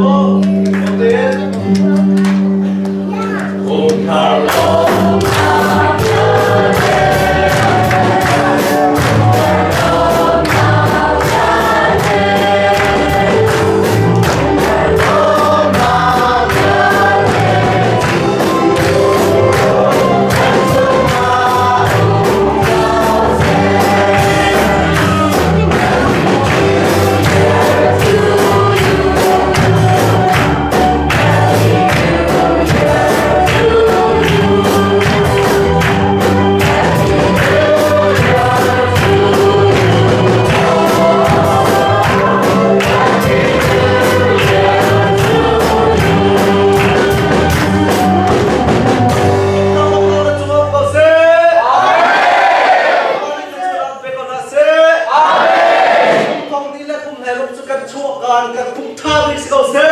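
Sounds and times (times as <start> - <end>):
instrumental accompaniment: 0.0 - 53.8
congregation singing: 3.6 - 59.9.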